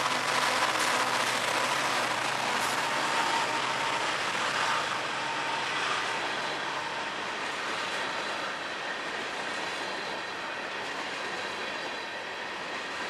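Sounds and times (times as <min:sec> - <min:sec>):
freight train wheels on rail: 0:00.0 - 0:13.0.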